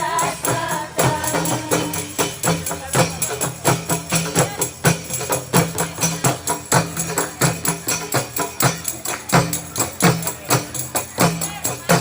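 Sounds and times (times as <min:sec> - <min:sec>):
frame drums beating: 0:00.0 - 0:12.0
tambourine jingles: 0:00.0 - 0:12.0.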